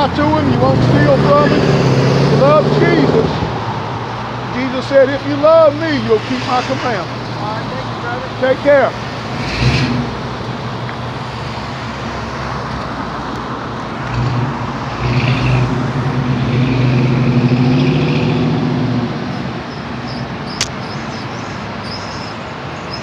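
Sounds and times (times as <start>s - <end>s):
vehicle engine passing: 0.0s - 10.5s, 11.1s - 21.8s
road traffic: 0.0s - 23.0s.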